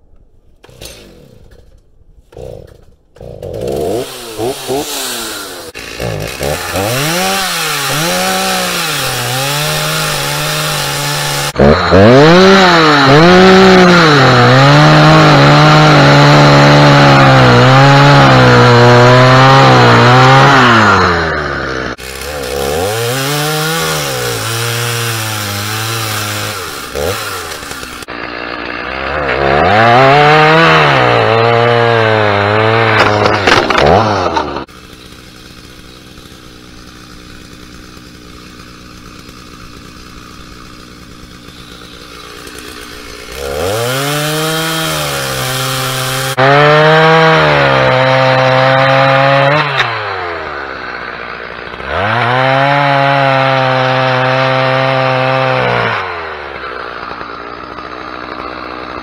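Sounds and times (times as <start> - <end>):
chainsaw cutting log: 0.6 - 59.0.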